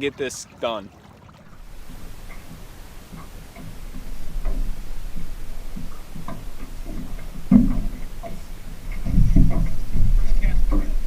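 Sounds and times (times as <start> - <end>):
low steady rumble: 1.4 - 11.0
light ticks and knocks: 1.5 - 11.0.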